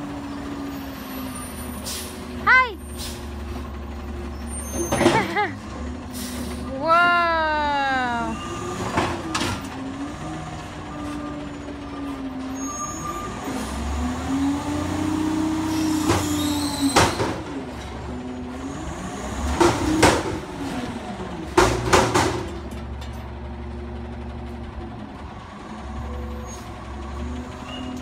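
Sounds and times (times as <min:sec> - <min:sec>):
truck engine revving: 0:00.0 - 0:22.7.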